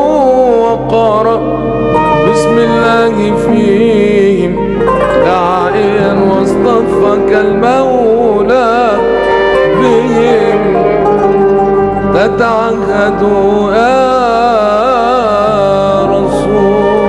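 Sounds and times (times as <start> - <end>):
instrumental accompaniment: 0.0 - 17.0
man singing: 0.0 - 17.0.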